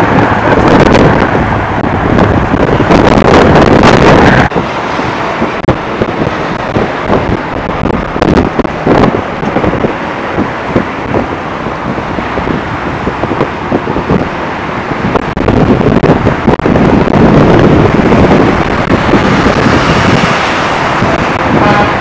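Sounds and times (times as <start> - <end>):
road traffic passing: 0.0 - 22.0
wind buffeting microphone: 0.0 - 22.0.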